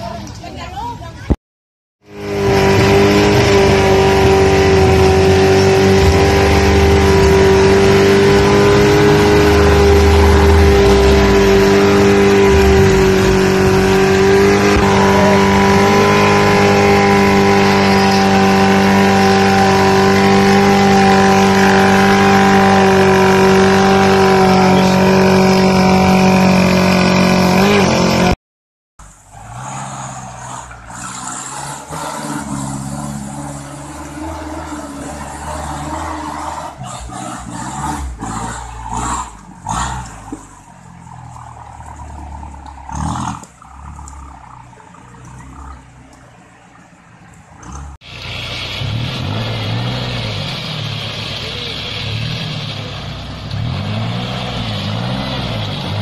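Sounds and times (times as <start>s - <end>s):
engine at high revs: 2.0s - 28.4s, 29.5s - 46.8s, 47.6s - 56.0s.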